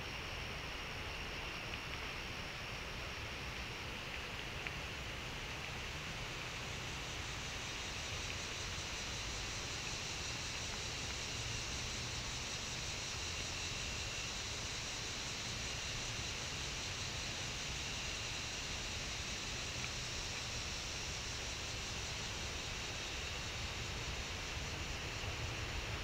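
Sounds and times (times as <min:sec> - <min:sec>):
insect chorus: 0:00.0 - 0:26.0
outdoor background hiss: 0:00.0 - 0:26.0.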